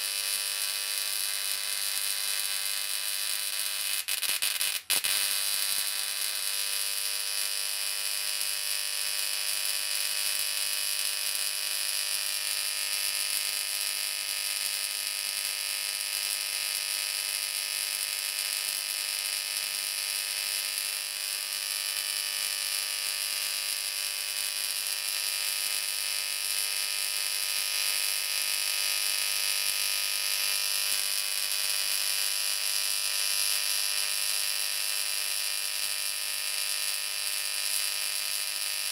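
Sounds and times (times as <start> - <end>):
electric arcs buzzing: 0.0 - 38.9.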